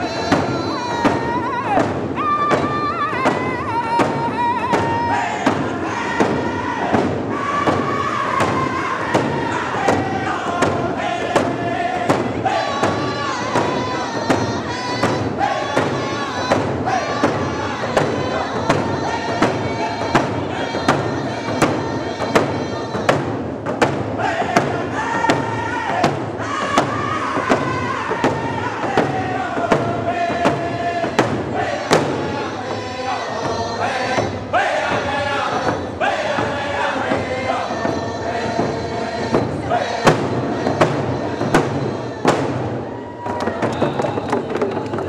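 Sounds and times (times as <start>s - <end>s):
group singing in unison: 0.0s - 45.0s
hand drums beating: 0.0s - 45.0s.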